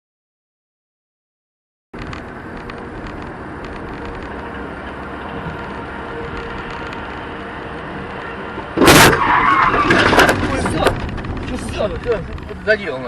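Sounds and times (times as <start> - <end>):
car road and engine noise: 2.0 - 13.0.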